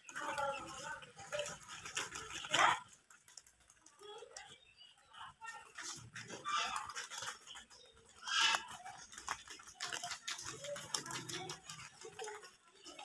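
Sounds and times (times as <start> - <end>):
rabbits chewing leaves: 0.0 - 13.0.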